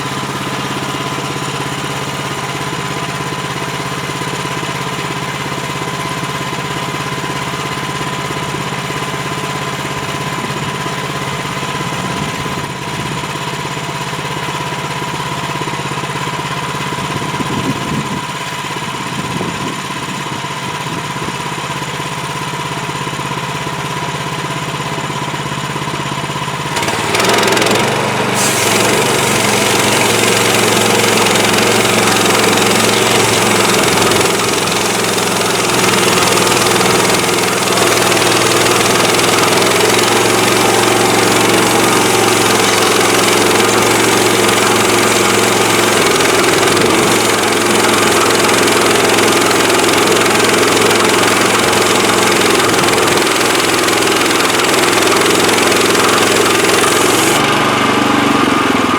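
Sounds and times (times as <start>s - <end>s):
gas engine running: 0.0s - 58.9s
sawmill rushing noise: 0.0s - 58.9s.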